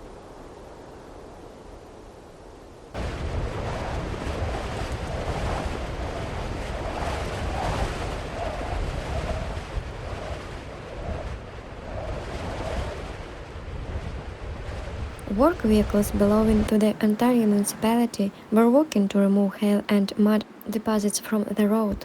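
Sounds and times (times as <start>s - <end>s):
steady rushing noise: 0.0s - 22.0s
wind buffeting microphone: 0.0s - 22.0s.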